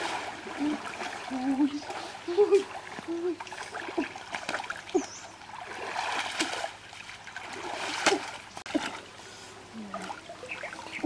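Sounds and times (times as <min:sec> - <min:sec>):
person wading through water: 0:00.0 - 0:11.0.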